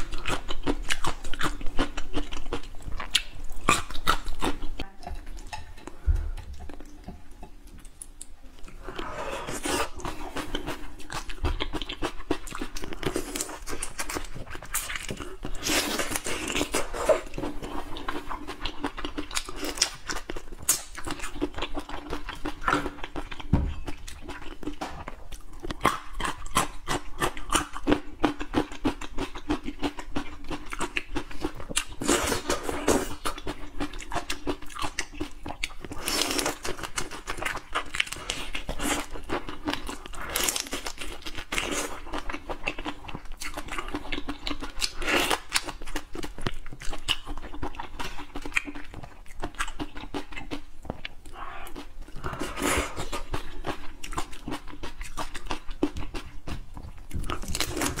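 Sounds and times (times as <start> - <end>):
chewing shrimp with shell crunches: 0.0 - 58.0.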